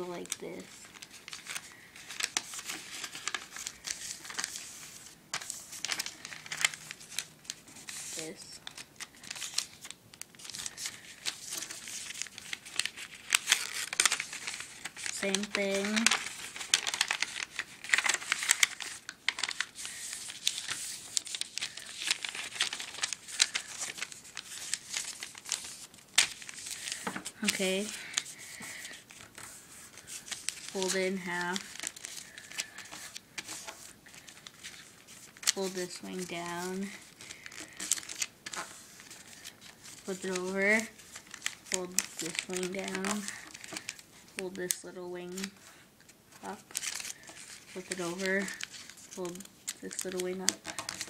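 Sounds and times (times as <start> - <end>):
paper crinkling: 0.0 - 51.0.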